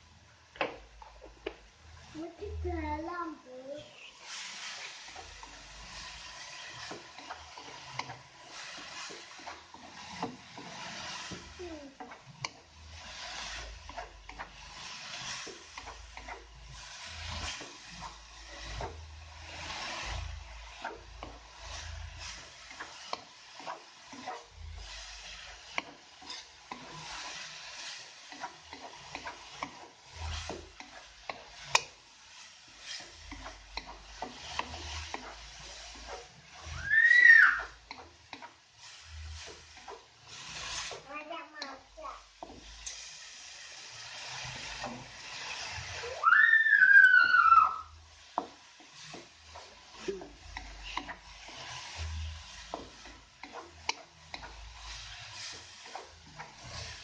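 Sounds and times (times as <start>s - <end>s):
wooden spatula scraping a wok: 0.0s - 57.0s.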